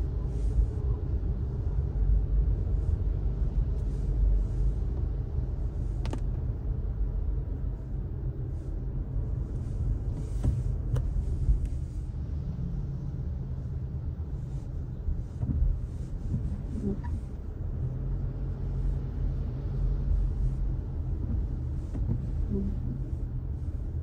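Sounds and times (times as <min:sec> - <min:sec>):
car driving on wet road: 0:00.0 - 0:24.0.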